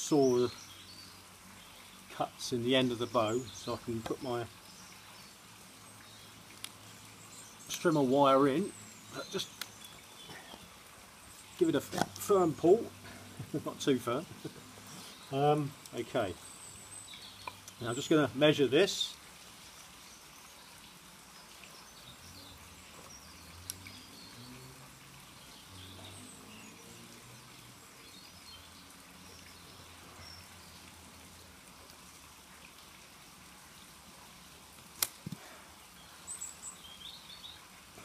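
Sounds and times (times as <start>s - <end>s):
faint birdsong: 0.0s - 32.0s, 35.3s - 38.0s.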